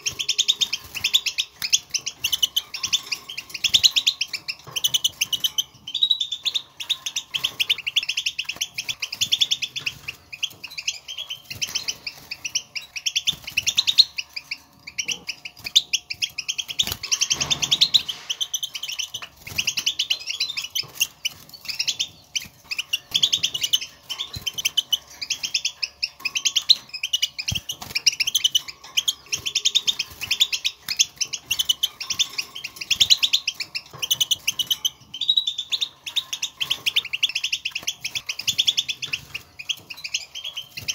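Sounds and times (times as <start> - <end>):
goldfinch twittering calls: 0.0 - 40.9.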